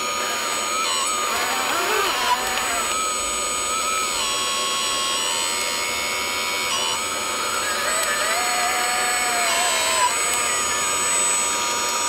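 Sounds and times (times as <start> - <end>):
lower motor whine: 0.0 - 12.0
small electric motors whining: 0.0 - 12.0.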